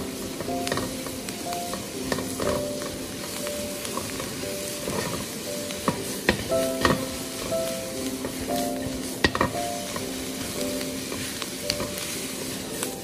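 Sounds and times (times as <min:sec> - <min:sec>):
peppers sizzling in hot oil: 0:00.0 - 0:13.0
soft background music: 0:00.0 - 0:13.0
spatula scraping and knocking wok: 0:00.0 - 0:13.0.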